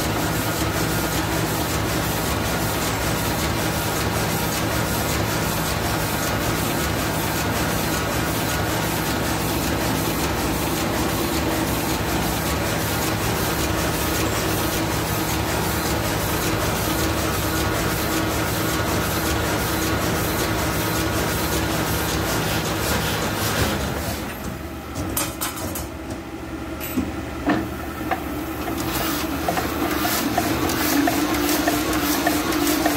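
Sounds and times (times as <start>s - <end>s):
printing press running: 0.0s - 32.9s.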